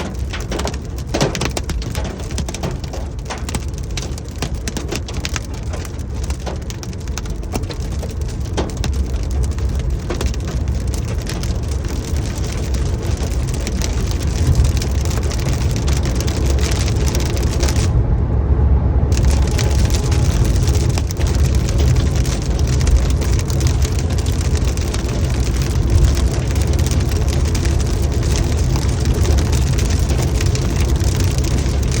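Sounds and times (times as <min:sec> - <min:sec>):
hail and rain pattering: 0:00.0 - 0:17.9, 0:19.1 - 0:32.0
low rumble: 0:00.0 - 0:32.0.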